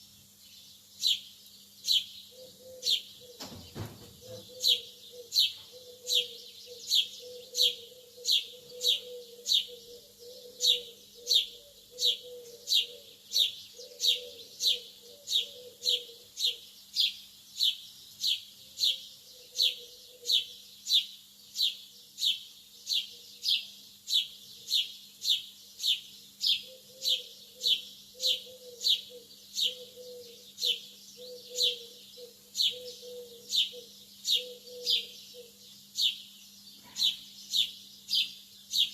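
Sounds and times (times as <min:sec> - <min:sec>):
lovebird chirping: 0:00.5 - 0:38.9.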